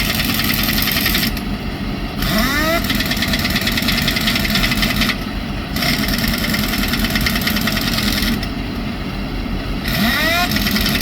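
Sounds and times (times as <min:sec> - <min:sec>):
pneumatic impact wrench hammering: 0:00.0 - 0:01.5, 0:02.2 - 0:08.5, 0:09.8 - 0:11.0.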